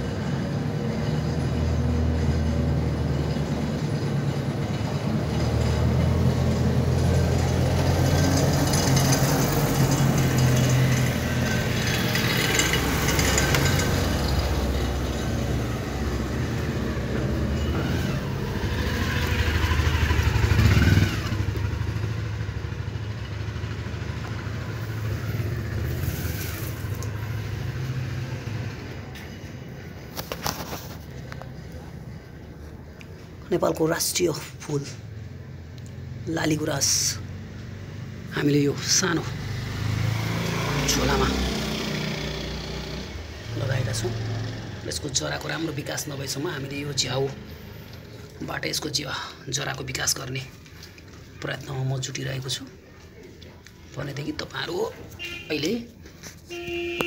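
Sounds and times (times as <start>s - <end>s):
vehicle engine rumbling: 0.0s - 57.0s.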